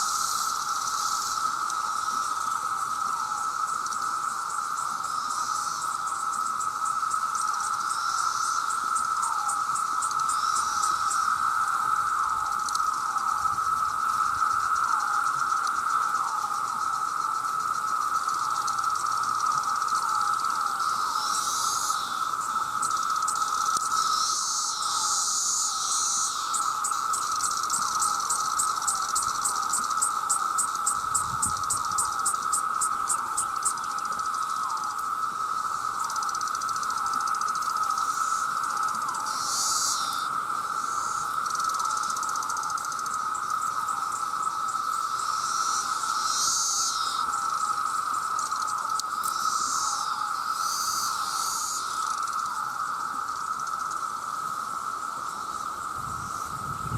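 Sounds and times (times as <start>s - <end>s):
cicadas droning: 0.0s - 56.9s
rhythmic pulsing insect calls: 0.0s - 56.9s.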